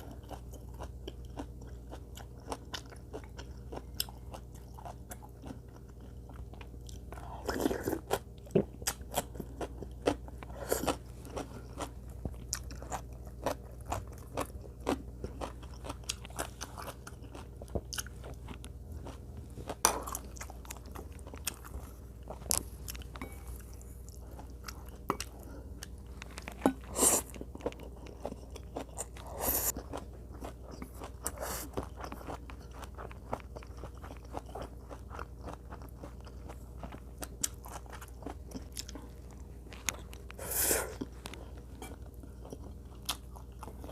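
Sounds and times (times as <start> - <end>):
person chewing and crunching: 0.0 - 43.9.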